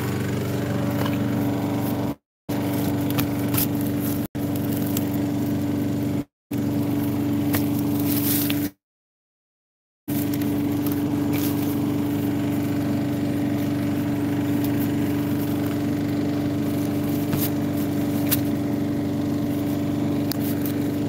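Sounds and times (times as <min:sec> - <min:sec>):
lawn mower engine running: 0:00.0 - 0:08.8, 0:10.1 - 0:21.0.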